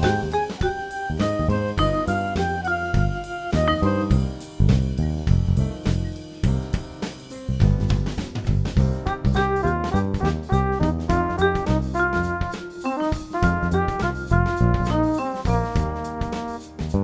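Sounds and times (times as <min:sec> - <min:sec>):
upbeat jazzy instrumental music: 0:00.0 - 0:17.0.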